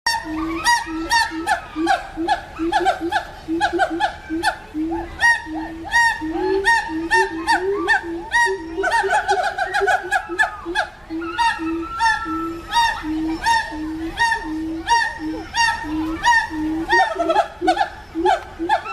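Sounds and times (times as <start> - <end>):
monkeys calling: 0.1 - 18.9.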